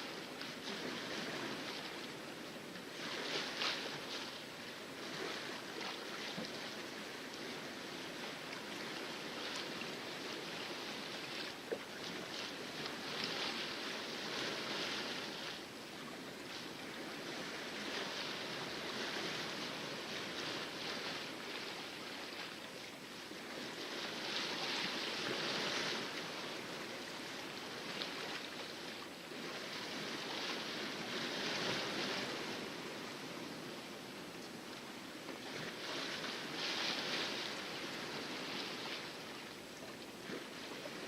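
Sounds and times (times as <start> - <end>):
water splashing along a boat hull: 0.0 - 41.0.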